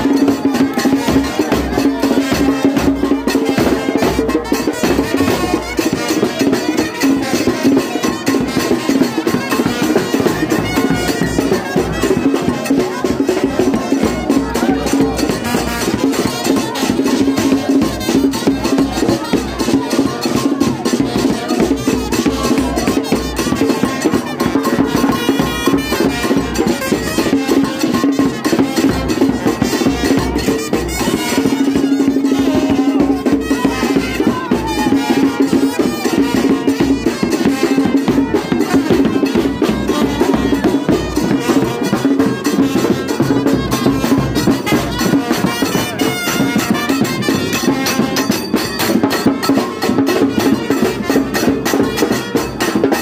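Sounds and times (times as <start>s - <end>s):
brass band playing dance music: 0.0s - 53.0s.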